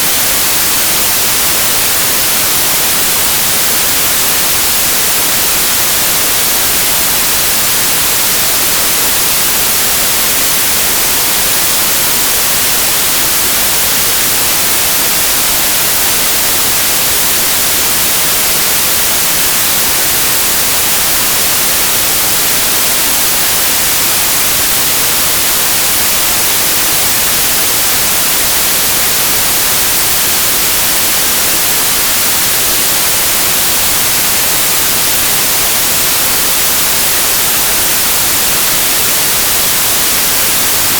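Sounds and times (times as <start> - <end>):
loud white noise hiss: 0.0 - 40.9.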